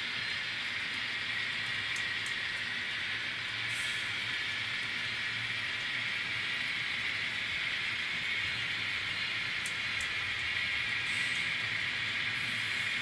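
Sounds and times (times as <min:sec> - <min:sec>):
model train whirring on track: 0:00.0 - 0:13.0.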